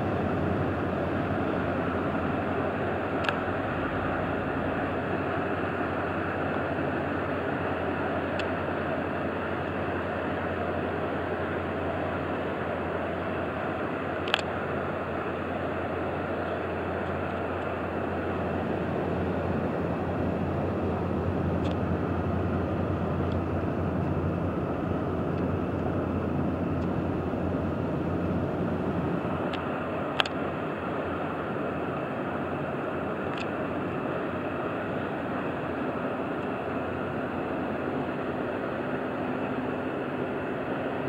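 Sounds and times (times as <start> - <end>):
diesel engines droning: 0.0 - 41.0
wind: 0.0 - 41.0.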